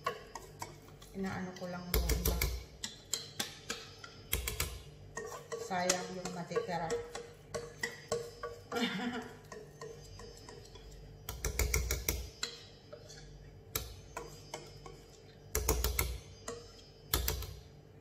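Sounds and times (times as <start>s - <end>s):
whisk clicking against steel bowl: 0.0s - 17.6s.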